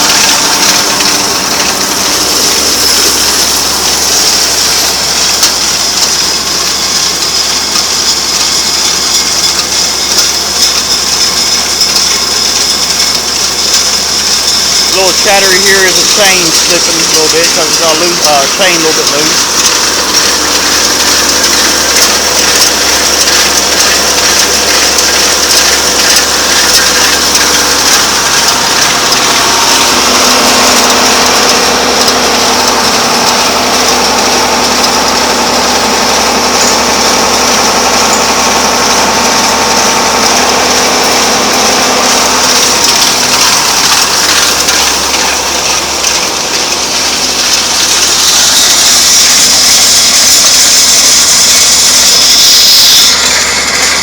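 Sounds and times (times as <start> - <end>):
baler belts and chains turning: 0.0 - 54.0
drive chain chattering: 0.0 - 54.0
tractor diesel engine: 0.0 - 54.0.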